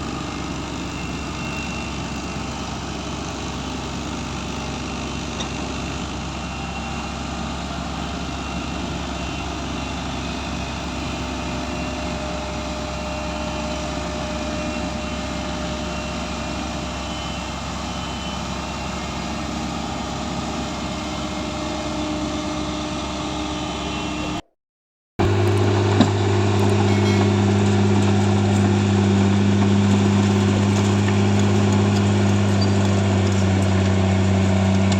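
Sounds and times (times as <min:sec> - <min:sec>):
heavy diesel engine running: 0:00.0 - 0:24.4, 0:25.2 - 0:34.9.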